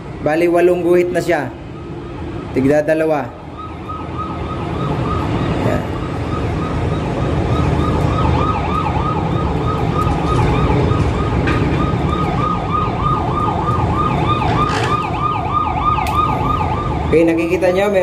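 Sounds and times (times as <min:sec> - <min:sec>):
siren yelping: 0:00.4 - 0:18.0.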